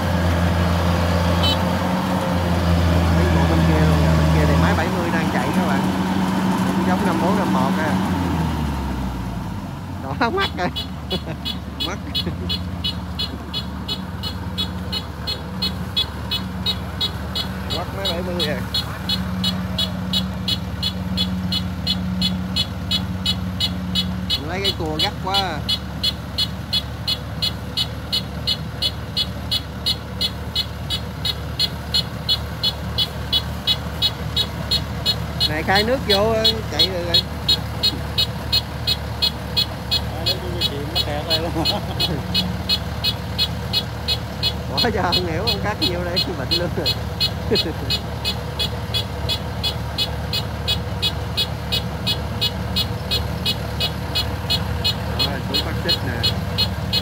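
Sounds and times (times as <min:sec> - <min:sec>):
combine harvester engine running: 0:00.0 - 0:57.0
high-pitched repeating chirp: 0:10.2 - 0:57.0
high-pitched ticking: 0:10.2 - 0:57.0.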